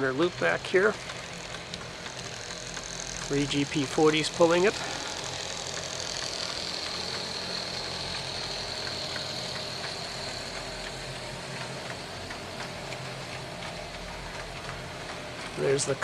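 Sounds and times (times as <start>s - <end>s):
model train rumble on rails: 0.0s - 16.0s.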